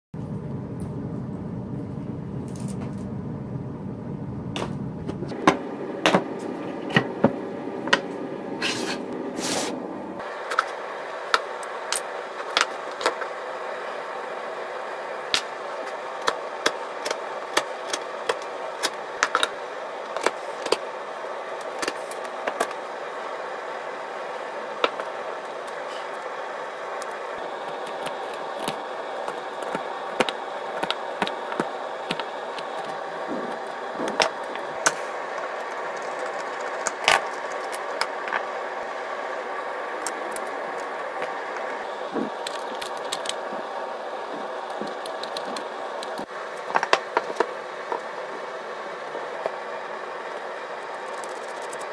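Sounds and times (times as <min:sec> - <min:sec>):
steady mechanical hum: 0:00.2 - 0:51.9.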